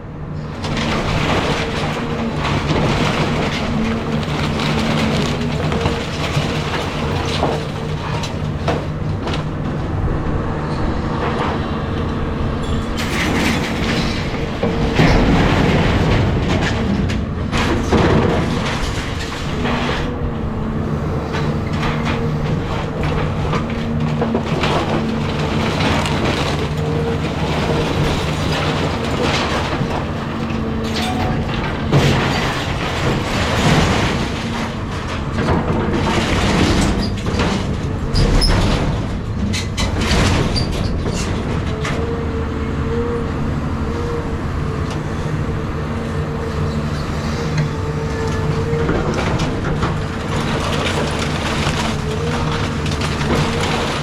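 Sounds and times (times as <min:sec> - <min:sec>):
excavator diesel engine running: 0:00.0 - 0:54.0
wood and debris crashing: 0:00.6 - 0:10.0, 0:11.1 - 0:42.2, 0:44.9 - 0:54.0.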